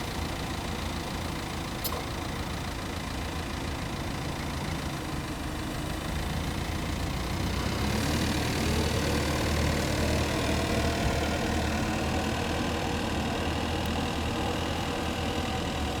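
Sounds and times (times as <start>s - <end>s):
forklift engine running: 0.0s - 16.0s.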